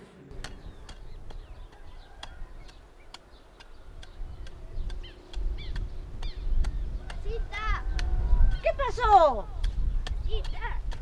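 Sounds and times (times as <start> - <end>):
bird chirps: 0.3 - 10.7.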